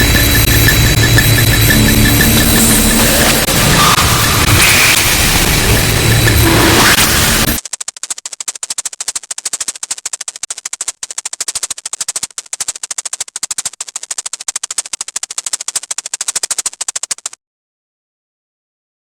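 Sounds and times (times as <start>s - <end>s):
rapid sharp clicks: 0.0s - 17.4s.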